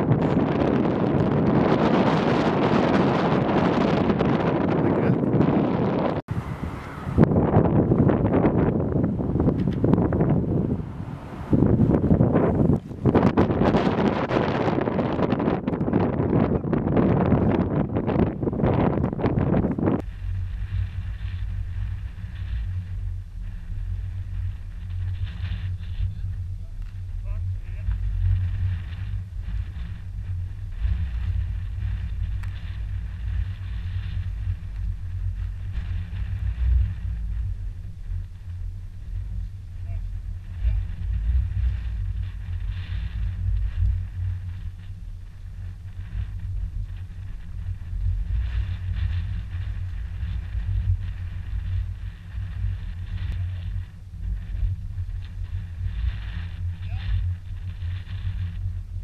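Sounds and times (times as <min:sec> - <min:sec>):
wind buffeting the microphone: 0:00.0 - 0:59.0.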